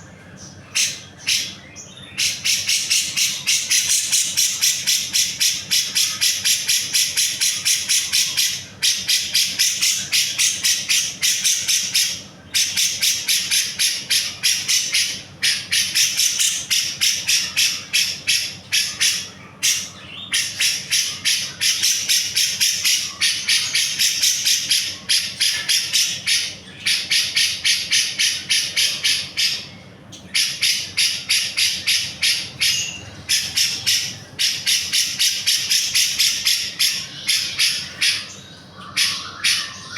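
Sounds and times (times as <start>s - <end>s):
bird rasping chatter: 0.5s - 39.9s.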